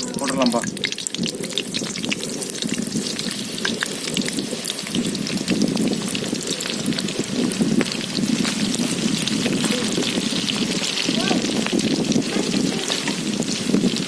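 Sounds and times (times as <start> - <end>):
batter deep-frying in hot oil: 0.0 - 14.0.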